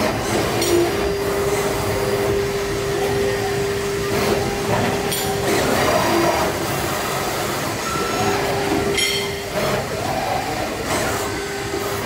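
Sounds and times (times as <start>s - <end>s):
cutting machine running: 0.0s - 12.0s
mid-pitched machine whine: 0.0s - 12.0s.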